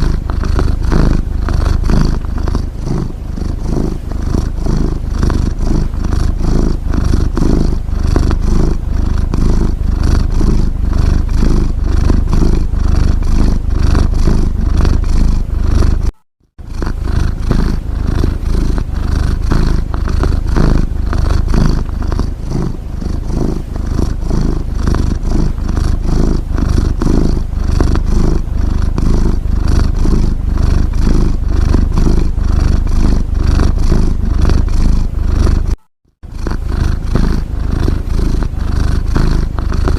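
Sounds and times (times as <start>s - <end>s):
cat snoring: 0.0s - 39.9s.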